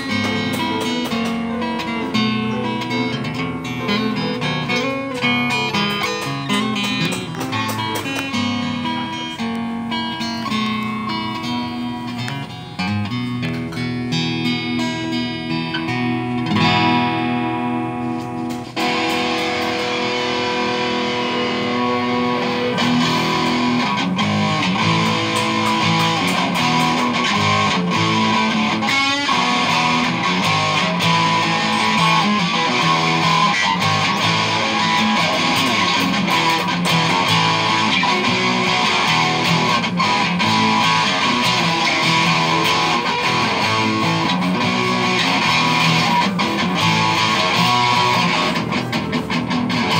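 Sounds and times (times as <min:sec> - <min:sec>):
amplified acoustic guitar: 0:00.0 - 0:49.9.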